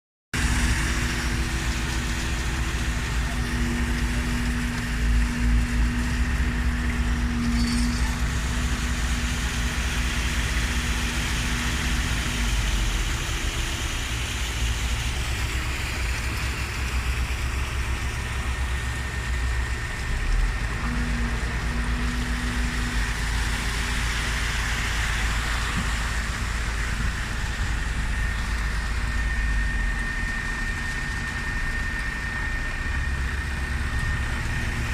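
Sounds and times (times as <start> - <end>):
diesel truck engine running: 0.4 - 34.9
low humming tone: 0.4 - 34.9.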